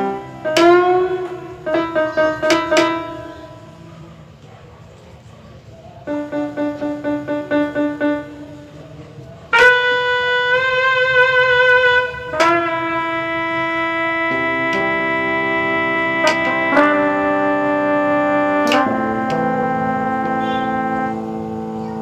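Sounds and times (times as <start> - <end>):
electronic keyboard notes: 0.0 - 4.2, 6.0 - 22.0
wind-like keyboard held notes: 0.0 - 22.0.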